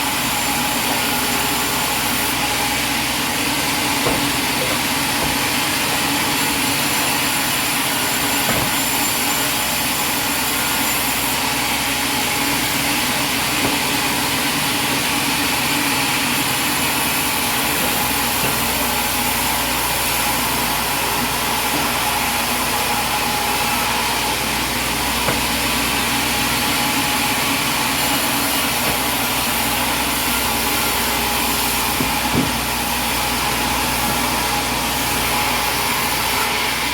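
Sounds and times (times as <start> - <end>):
sawmill machinery running: 0.0 - 36.9.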